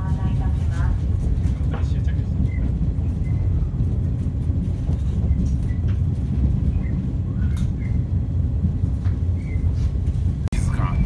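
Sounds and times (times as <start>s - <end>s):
wheels rumbling on track: 0.0s - 11.0s.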